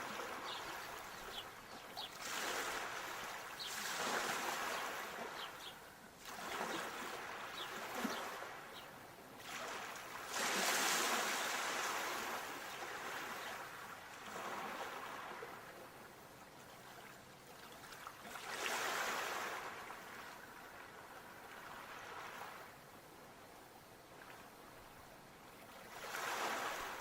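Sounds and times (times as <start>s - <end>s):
sea waves breaking on shore: 0.0s - 16.0s, 16.7s - 22.8s, 25.5s - 27.0s.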